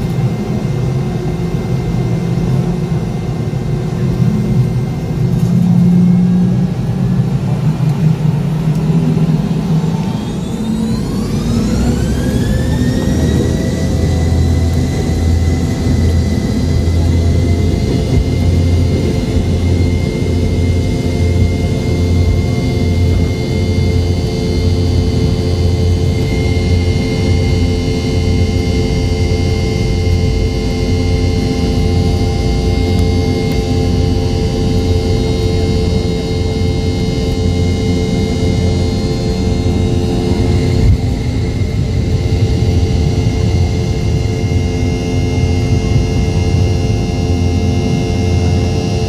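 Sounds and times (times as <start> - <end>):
jet engines at takeoff thrust: 0.0 - 49.0.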